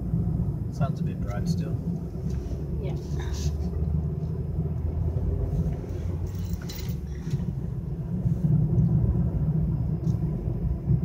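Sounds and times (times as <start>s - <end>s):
car engine rumble: 0.0s - 11.0s
tyre road noise: 0.0s - 11.0s.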